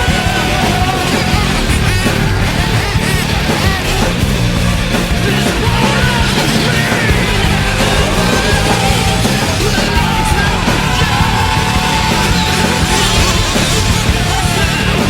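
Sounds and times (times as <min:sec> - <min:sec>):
distorted guitars: 0:00.0 - 0:15.0
drums: 0:00.0 - 0:15.0
punk rock music: 0:00.0 - 0:15.0
shouted vocals: 0:00.0 - 0:15.0.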